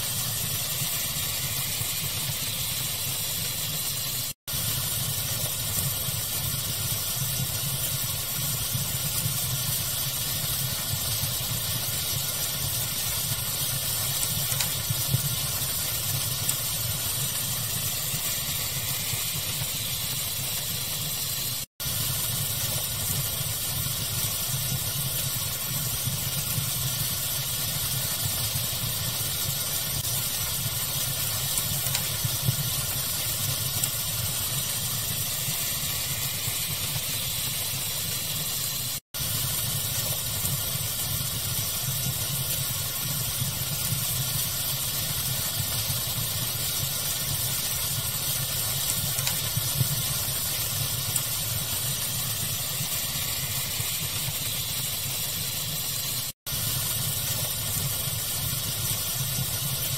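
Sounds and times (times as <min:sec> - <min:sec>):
fire crackling: 0:00.0 - 0:59.9
steady hiss: 0:00.0 - 0:59.9.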